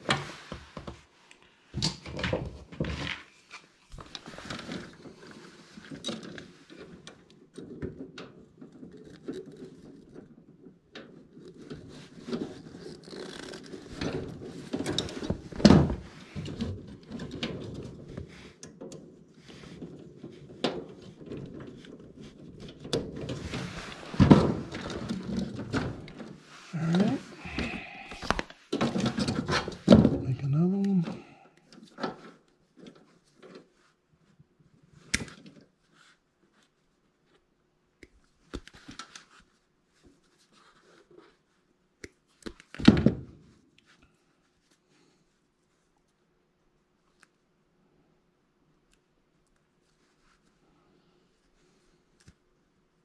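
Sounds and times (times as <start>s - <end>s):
hands rustling with wiring: 0.0s - 53.0s.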